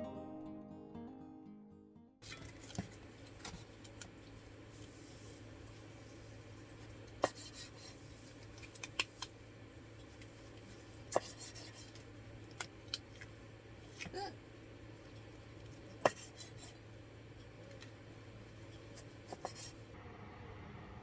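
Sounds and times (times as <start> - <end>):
low steady hum: 2.2 - 21.0.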